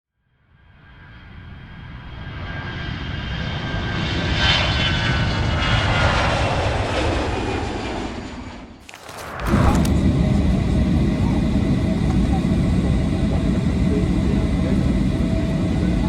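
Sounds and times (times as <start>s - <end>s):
jet engines rumbling and whining: 1.5s - 16.0s.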